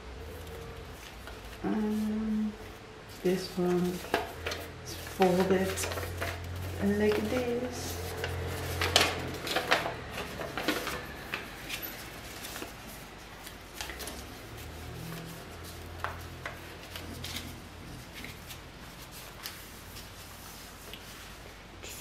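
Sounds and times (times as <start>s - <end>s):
paper rustling and crinkling: 0.1s - 22.0s.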